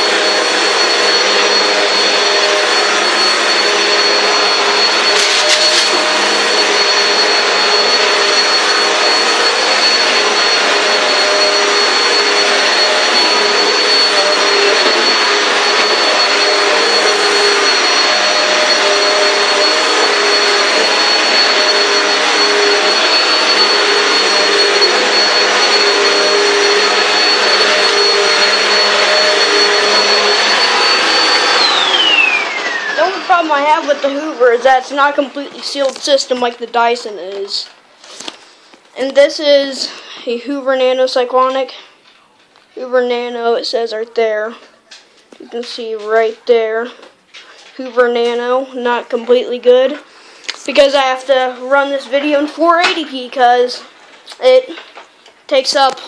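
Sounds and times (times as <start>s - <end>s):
vacuum cleaner running: 0.0s - 42.1s, 47.8s - 56.0s.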